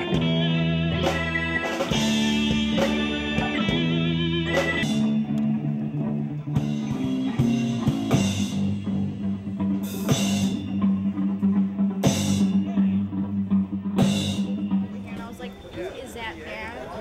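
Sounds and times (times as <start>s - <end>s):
electric guitar chords: 0.0s - 15.2s.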